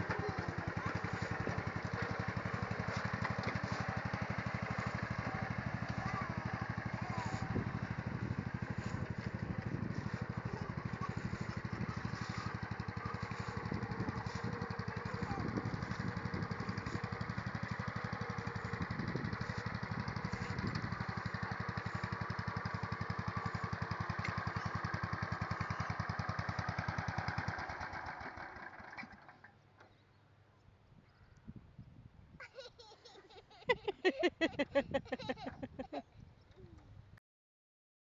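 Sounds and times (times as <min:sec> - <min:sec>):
garden tractor engine puttering: 0:00.0 - 0:30.1, 0:33.7 - 0:36.0.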